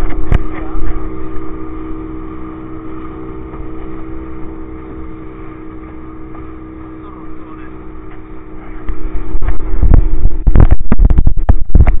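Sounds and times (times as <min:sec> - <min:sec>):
motorboat engine running: 0:00.0 - 0:12.0
water rushing around hull: 0:00.0 - 0:12.0.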